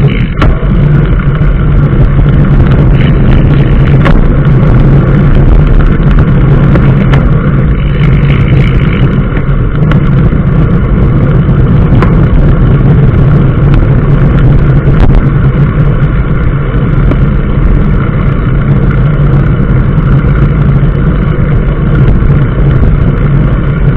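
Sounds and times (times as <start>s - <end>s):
vehicle engine and road noise: 0.0s - 23.9s.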